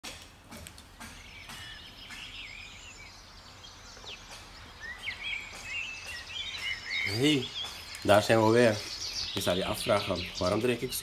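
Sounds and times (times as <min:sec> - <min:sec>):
outdoor background noise: 0:00.0 - 0:11.0
bird singing: 0:00.6 - 0:11.0.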